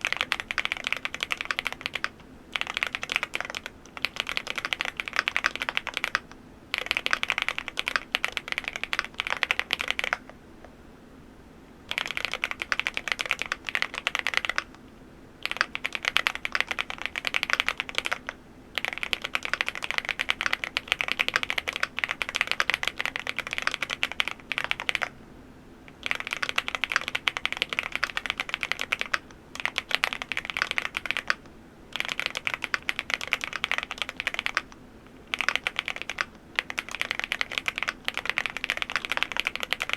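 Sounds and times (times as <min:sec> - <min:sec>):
mechanical keyboard typing: 0:00.0 - 0:10.3, 0:11.9 - 0:14.8, 0:15.4 - 0:25.1, 0:25.9 - 0:39.9.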